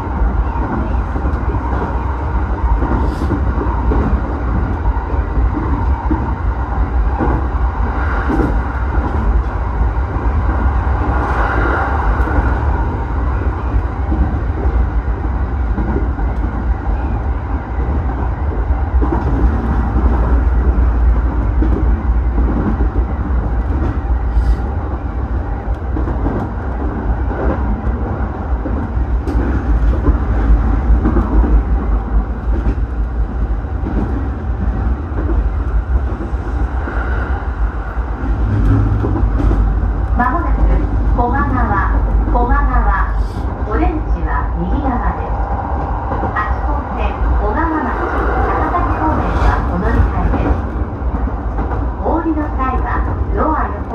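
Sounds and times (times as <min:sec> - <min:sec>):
electric train rumbling on track: 0:00.0 - 0:53.9.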